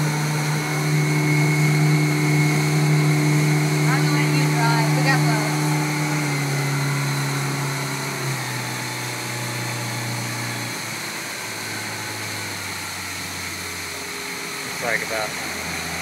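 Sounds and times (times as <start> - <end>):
motorboat engine hum: 0.0 - 16.0.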